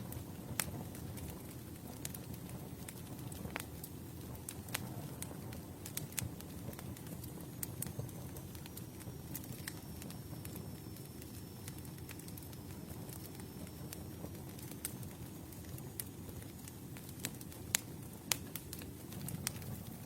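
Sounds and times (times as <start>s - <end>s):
burning wood crackling and popping: 0.0s - 20.0s
campfire flames rushing: 0.0s - 20.0s.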